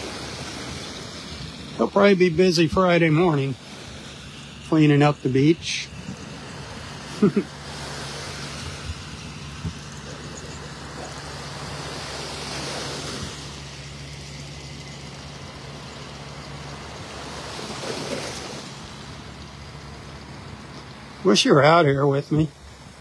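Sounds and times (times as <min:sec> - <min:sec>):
small waves washing on sand: 0:00.0 - 0:23.0
tractor engine humming: 0:00.0 - 0:23.0.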